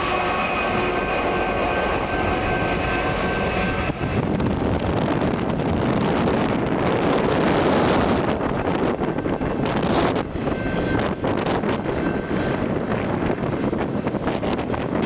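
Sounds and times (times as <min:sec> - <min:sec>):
diesel locomotive engines: 0:00.0 - 0:15.0
train wheels rolling on rails: 0:00.0 - 0:15.0
wind buffeting microphone: 0:00.0 - 0:15.0.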